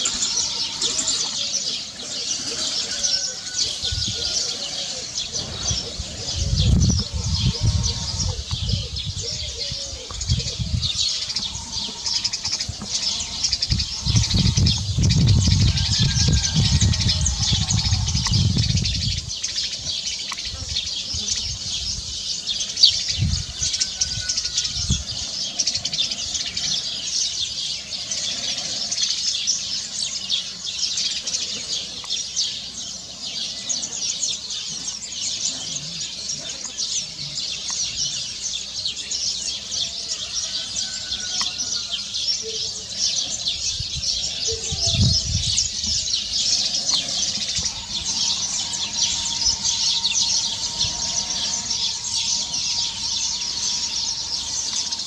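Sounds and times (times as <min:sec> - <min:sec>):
bird calls: 0:00.0 - 0:55.0
small birds chirping: 0:00.0 - 0:55.0.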